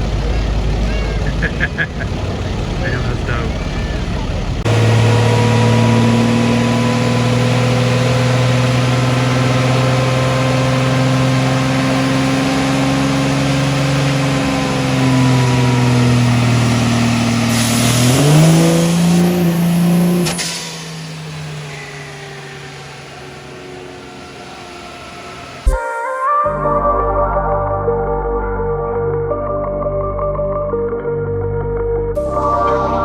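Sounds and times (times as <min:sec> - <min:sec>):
vehicle engine idling and revving: 0:00.0 - 0:25.8, 0:26.6 - 0:33.0.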